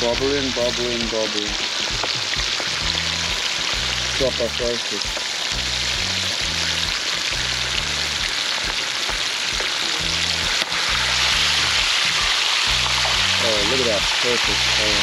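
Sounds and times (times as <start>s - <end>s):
background music with bass line: 0.0s - 15.0s
hot oil sizzling: 0.0s - 15.0s.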